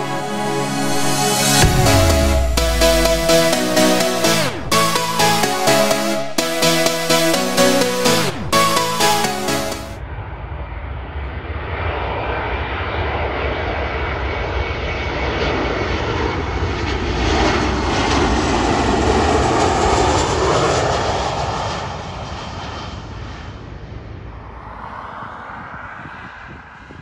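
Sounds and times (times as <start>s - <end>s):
jet engine roar overhead: 0.0s - 6.1s, 10.0s - 27.0s.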